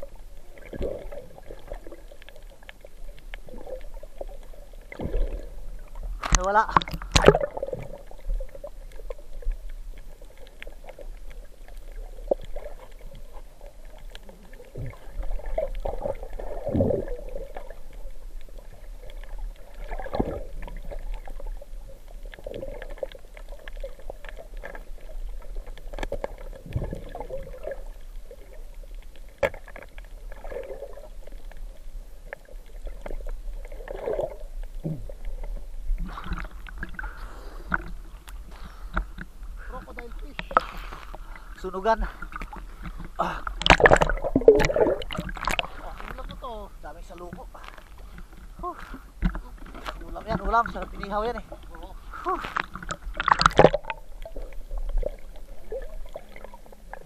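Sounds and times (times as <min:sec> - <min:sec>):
muffled water sloshing underwater: 0:00.0 - 0:57.0.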